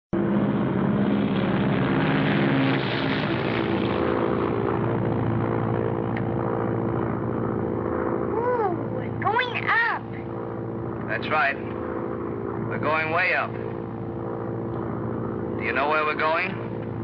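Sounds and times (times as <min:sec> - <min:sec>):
propeller airplane engine drone: 0:00.2 - 0:17.0.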